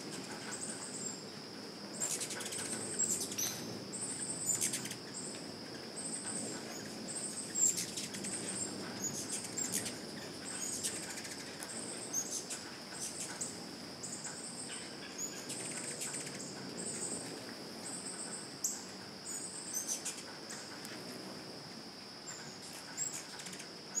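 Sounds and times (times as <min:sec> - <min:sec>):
high insect drone: 0:00.0 - 0:24.0
hummingbird wings humming: 0:00.0 - 0:24.0
pulsing insect call: 0:00.0 - 0:24.0.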